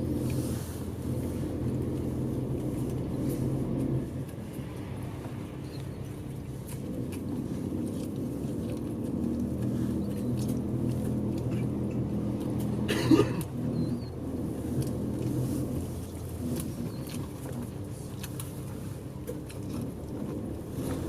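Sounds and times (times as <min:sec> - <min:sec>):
diesel bus engine running: 0:00.0 - 0:21.0.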